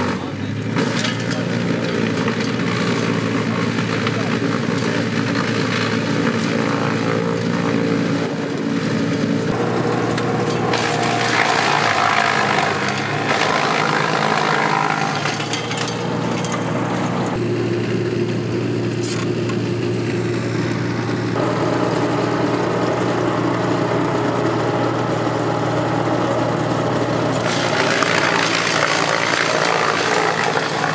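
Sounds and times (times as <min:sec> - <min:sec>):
wood chipper chewing branches: 0:00.0 - 0:30.9.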